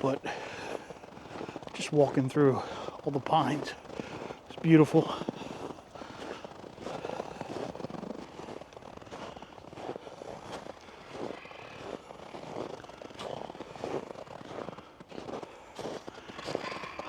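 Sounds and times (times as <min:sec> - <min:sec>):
footsteps in snow: 0:00.0 - 0:17.0.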